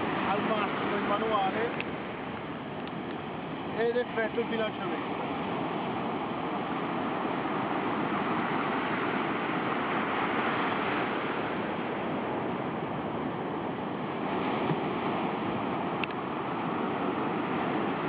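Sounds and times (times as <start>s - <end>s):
surf breaking on shore: 0.0s - 18.0s
wind on microphone: 0.0s - 18.0s.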